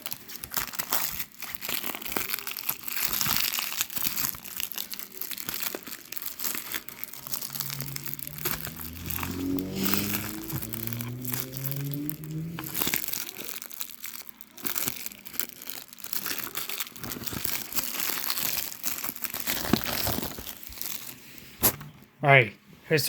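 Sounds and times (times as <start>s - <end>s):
plastic wrap crinkling and tearing: 0.0s - 21.9s.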